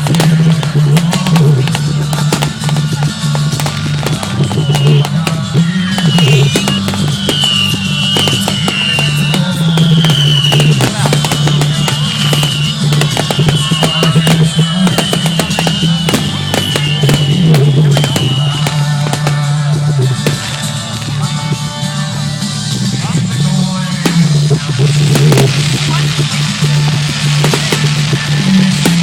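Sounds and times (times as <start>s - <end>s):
fireworks crackling and popping: 0.0s - 29.0s
loud music playing: 0.0s - 29.0s
falling firework whistles: 1.1s - 21.2s, 24.0s - 29.0s.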